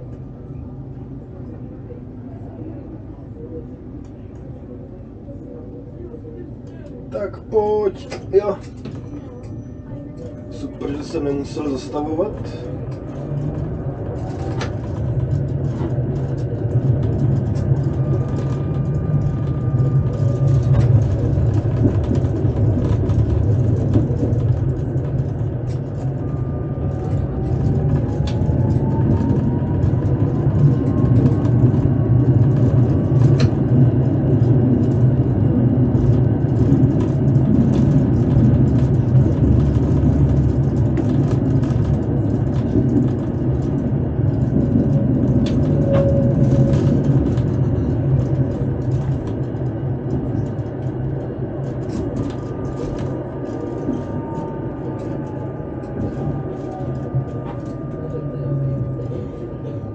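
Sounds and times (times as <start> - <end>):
tram rumbling on track: 0.0 - 59.9.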